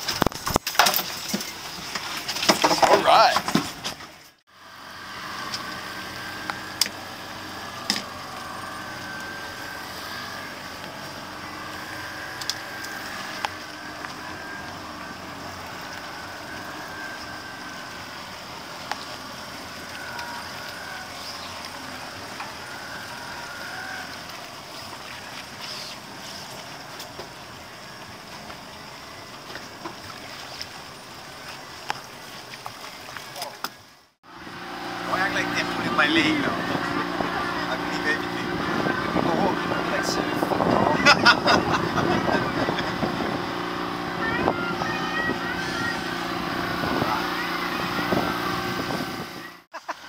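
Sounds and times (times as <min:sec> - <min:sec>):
boat motor humming: 0:00.0 - 0:50.0.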